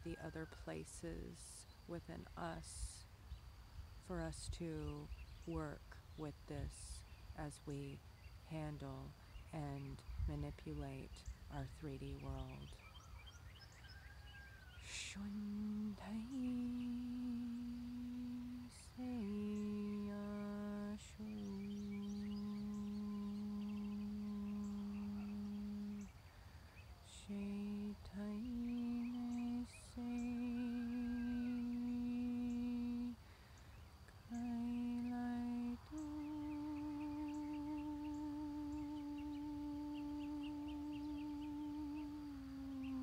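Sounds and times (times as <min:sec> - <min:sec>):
woman humming low notes: 0:00.0 - 0:03.0, 0:04.1 - 0:13.0, 0:14.8 - 0:26.1, 0:27.0 - 0:33.3, 0:34.1 - 0:43.0.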